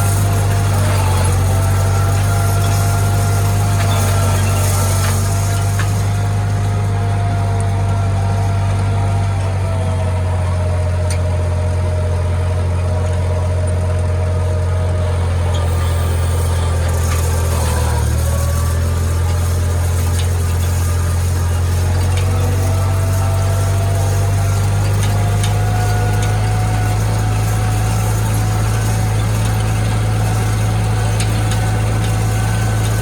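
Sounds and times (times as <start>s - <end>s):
faint engine whine: 0.0s - 33.0s
tractor engine humming: 0.0s - 33.0s.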